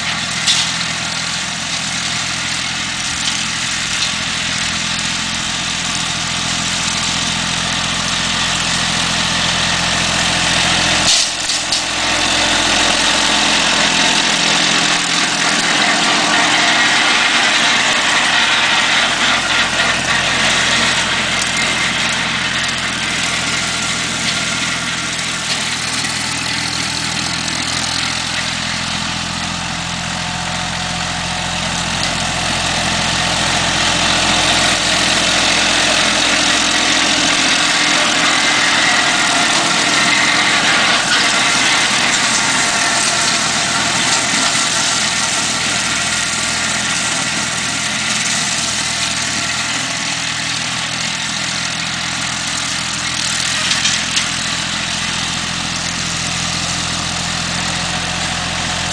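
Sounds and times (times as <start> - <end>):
diesel tractor engine running: 0.0 - 58.9
rotary mower whirring: 0.0 - 58.9.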